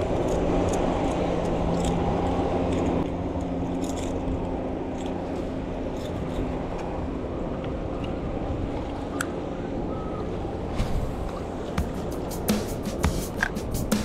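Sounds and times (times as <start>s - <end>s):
boat engines droning: 0.0s - 14.0s.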